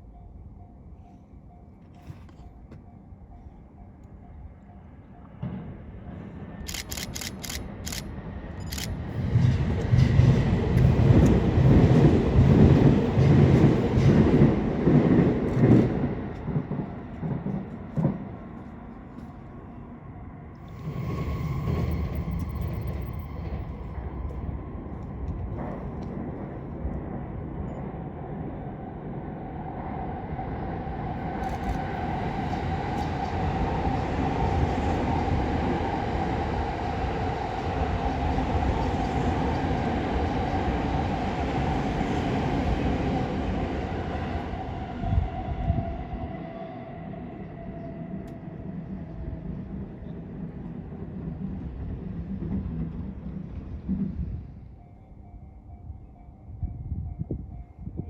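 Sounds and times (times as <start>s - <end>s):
train passing over tracks: 0.0s - 58.0s.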